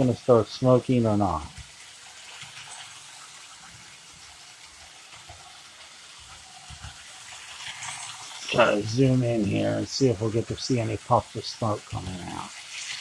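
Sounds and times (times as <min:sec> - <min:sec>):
model train rushing hiss: 0:00.0 - 0:13.0.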